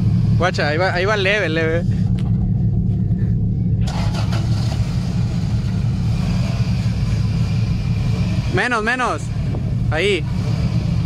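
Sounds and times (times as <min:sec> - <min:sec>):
off-road vehicle engine running low: 0:00.0 - 0:11.0.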